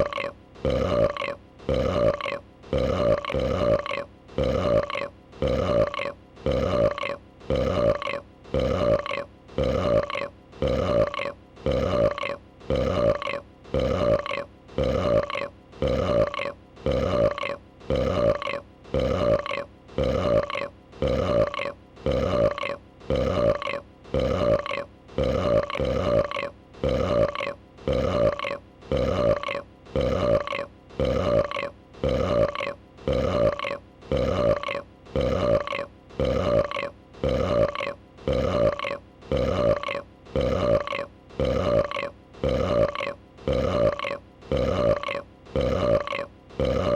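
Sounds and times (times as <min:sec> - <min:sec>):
short pitched burp effect: 0:00.0 - 0:46.9.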